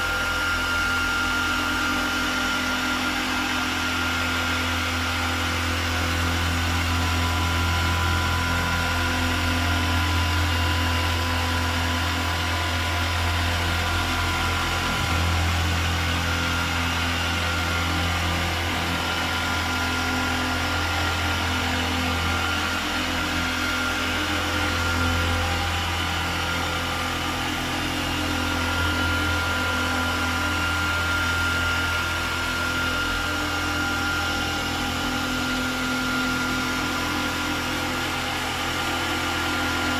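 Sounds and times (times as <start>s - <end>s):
machine polisher whining: 0.0s - 39.9s.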